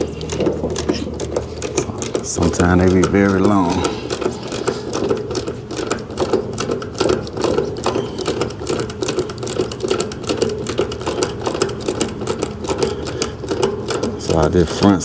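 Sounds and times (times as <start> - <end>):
air conditioner unit humming: 0.0 - 15.0
ratchet wrench clicking: 0.0 - 15.0.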